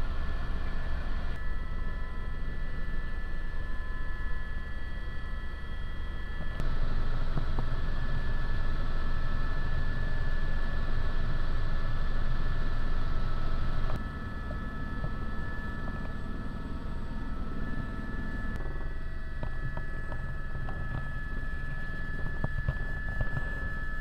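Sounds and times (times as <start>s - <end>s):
helicopter rotor and turbine drone: 0.0s - 24.0s.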